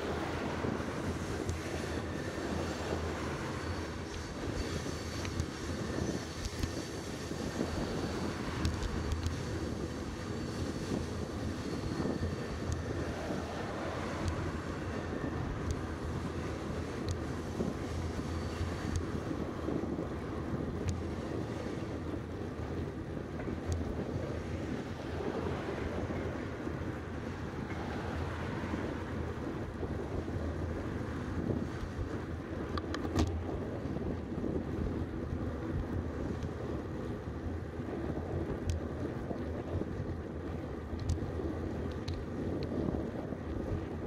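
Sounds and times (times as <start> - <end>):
low road noise: 0.0 - 44.0
wind rush on microphone: 0.0 - 44.0.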